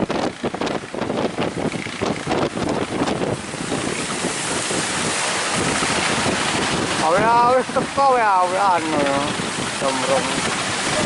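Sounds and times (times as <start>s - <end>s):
rushing surf: 0.0s - 11.0s
wind buffeting microphone: 0.0s - 11.0s.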